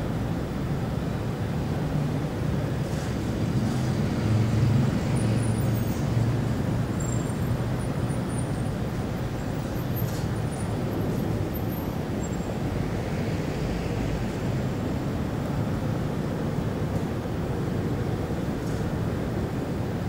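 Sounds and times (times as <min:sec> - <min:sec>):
low rumble of road traffic: 0:00.0 - 0:20.0.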